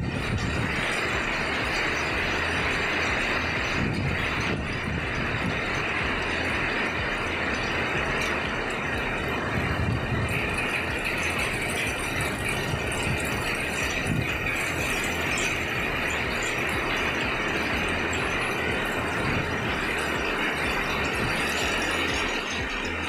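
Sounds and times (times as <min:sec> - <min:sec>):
heavy rain hiss and patter: 0:00.0 - 0:23.0.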